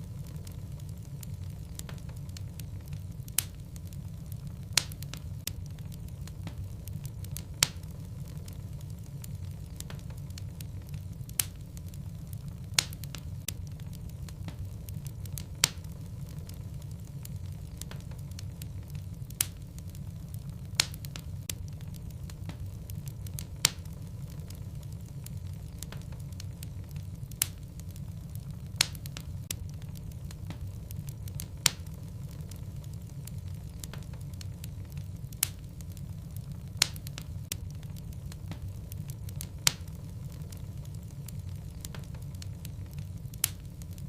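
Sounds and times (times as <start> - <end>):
logs crackling and popping: 0.0 - 44.0
low rumble of fire: 0.0 - 44.0.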